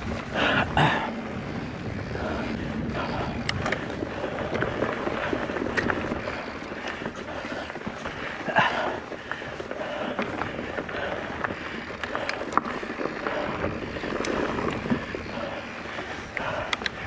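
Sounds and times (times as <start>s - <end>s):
bike clicking and rattling: 0.0s - 17.0s
bike tyres on dirt: 0.0s - 17.0s.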